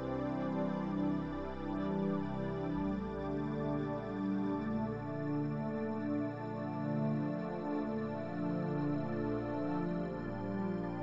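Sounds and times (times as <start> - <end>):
ambient music with sustained chords: 0.0 - 11.0.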